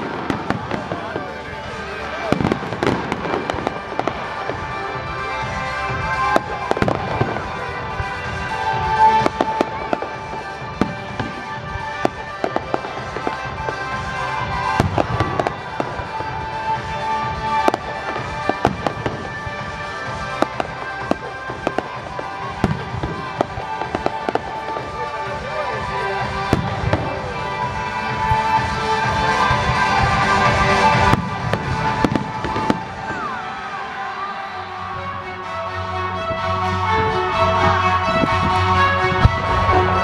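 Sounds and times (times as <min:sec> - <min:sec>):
fireworks bangs and crackles: 0:00.0 - 0:35.5, 0:36.2 - 0:40.0
music playing: 0:00.0 - 0:40.0.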